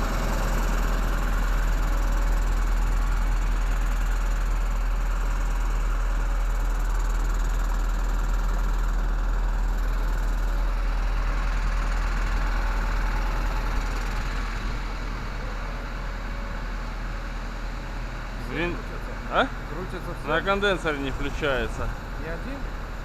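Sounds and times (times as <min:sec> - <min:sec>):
refrigeration unit humming: 0:00.0 - 0:23.0.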